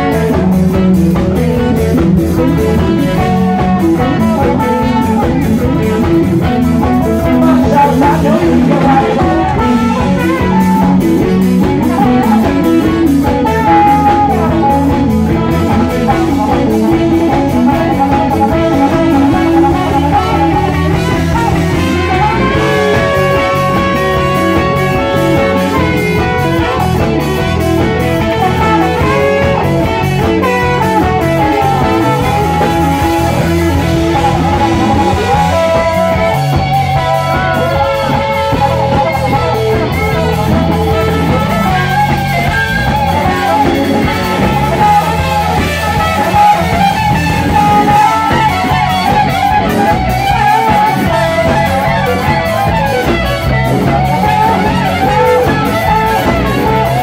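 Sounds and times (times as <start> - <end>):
bass: 0.0 - 57.0
drum kit: 0.0 - 57.0
electric guitar: 0.0 - 57.0
trumpet: 2.4 - 57.0.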